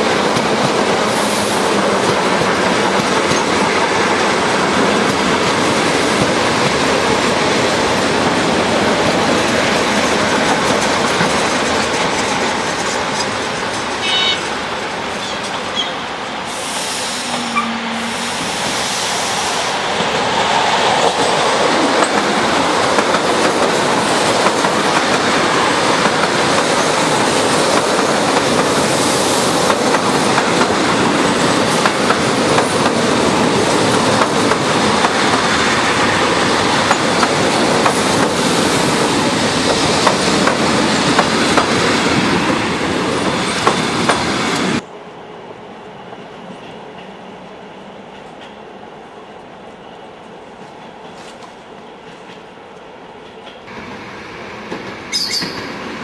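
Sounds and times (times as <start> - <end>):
electric train passing: 0.0 - 48.4, 53.6 - 56.0.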